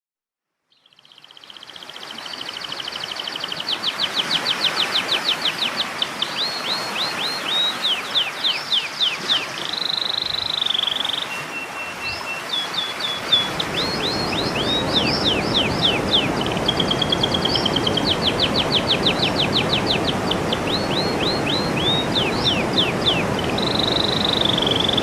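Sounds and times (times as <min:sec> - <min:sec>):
songbird singing: 0:00.7 - 0:25.0.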